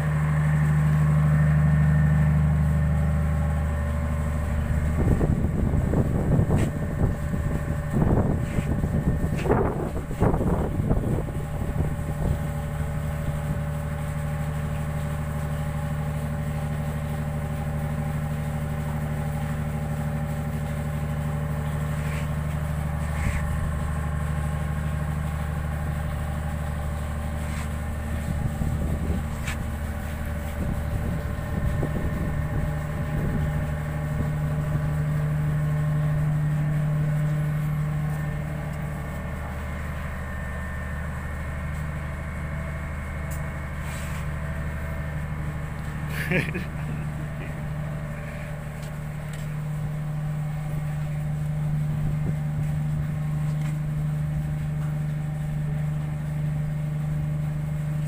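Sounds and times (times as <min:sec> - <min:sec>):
ship's diesel engine running: 0:00.0 - 0:58.0.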